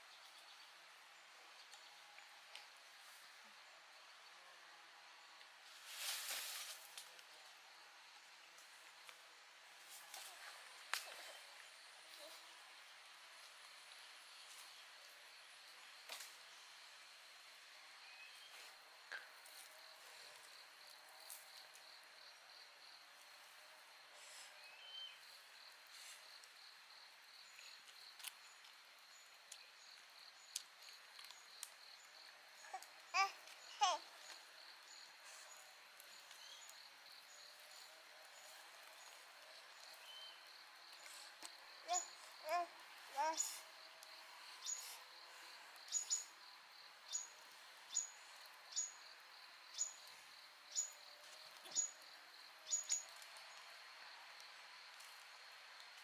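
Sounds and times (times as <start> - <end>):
insect drone: 10.7 - 56.0.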